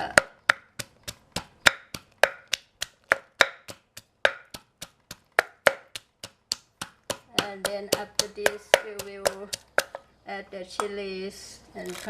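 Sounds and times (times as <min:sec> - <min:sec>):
pestle pounding in a mortar: 0:00.0 - 0:10.0.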